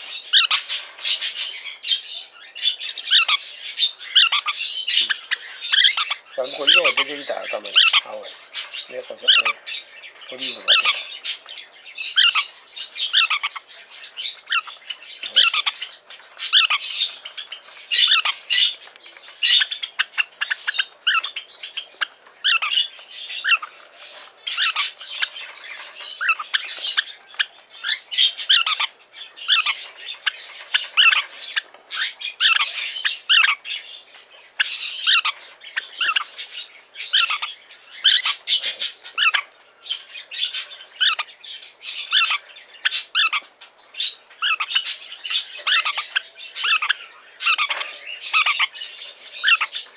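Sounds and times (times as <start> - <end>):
parakeets chirping and squawking: 0.0 - 49.9.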